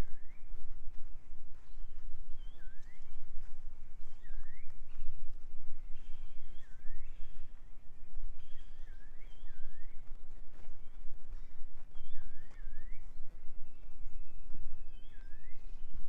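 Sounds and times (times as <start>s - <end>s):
faint footsteps: 0.0s - 16.0s.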